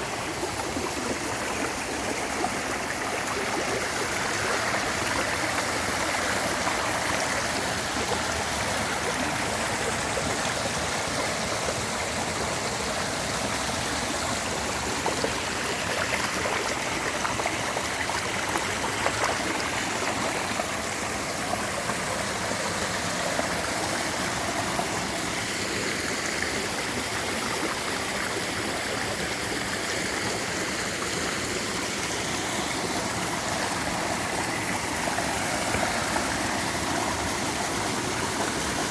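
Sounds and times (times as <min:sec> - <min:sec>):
stream of water flowing: 0:00.0 - 0:38.9.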